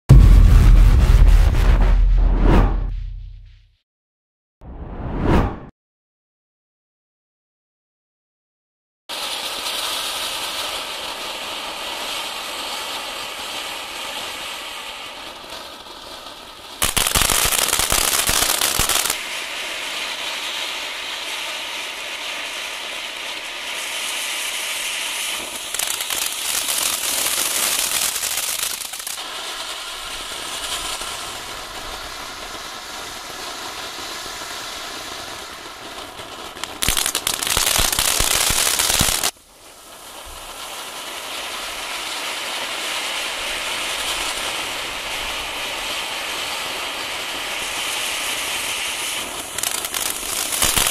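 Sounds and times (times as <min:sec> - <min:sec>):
firework fountains hissing and crackling: 0:09.1 - 0:50.9.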